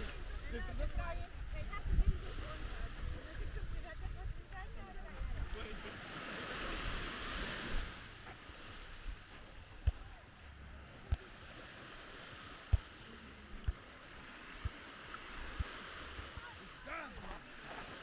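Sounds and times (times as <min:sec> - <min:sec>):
surf washing onto beach: 0:00.0 - 0:18.0.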